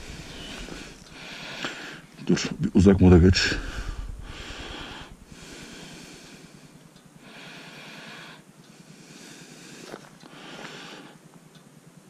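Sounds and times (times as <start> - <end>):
slow breathing: 0.0 - 2.2, 3.4 - 11.3.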